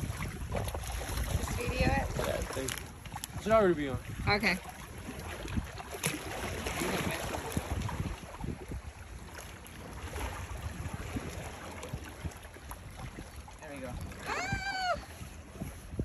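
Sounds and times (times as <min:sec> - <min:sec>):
water slapping against boulders: 0:00.0 - 0:16.0
wind buffeting microphone: 0:00.0 - 0:16.0.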